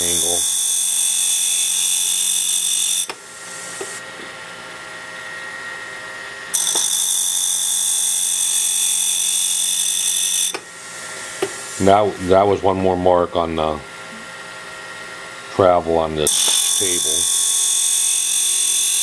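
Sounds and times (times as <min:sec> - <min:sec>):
grinding wheel whine: 0:00.0 - 0:13.8, 0:14.5 - 0:19.0.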